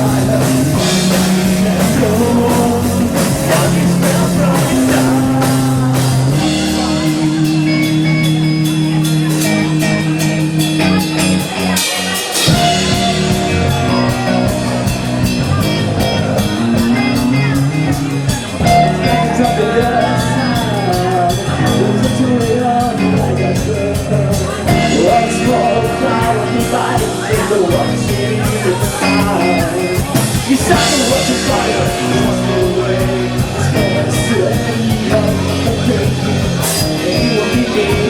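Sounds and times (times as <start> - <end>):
electric guitar: 0.0 - 38.0
live rock band playing: 0.0 - 38.0
steady drum beat: 0.0 - 38.0.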